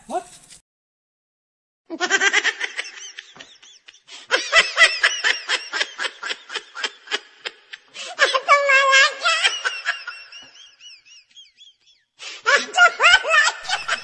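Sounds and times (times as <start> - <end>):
high-pitched comic laughter: 1.9 - 11.6, 12.5 - 14.0.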